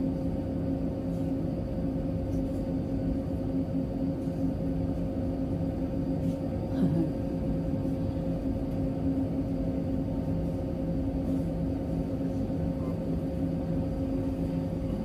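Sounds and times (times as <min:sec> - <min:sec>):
freezer cabinets humming: 0:00.0 - 0:15.0.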